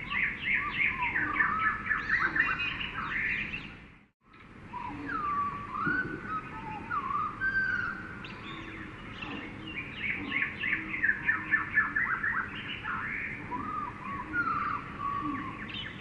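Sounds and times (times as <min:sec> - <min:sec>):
birds chirping rapidly: 0:00.0 - 0:16.0
birds whistling glides: 0:00.0 - 0:16.0.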